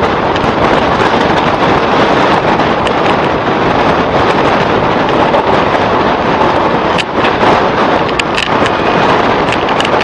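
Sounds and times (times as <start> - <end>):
train coaches rolling on rails: 0.0 - 10.0.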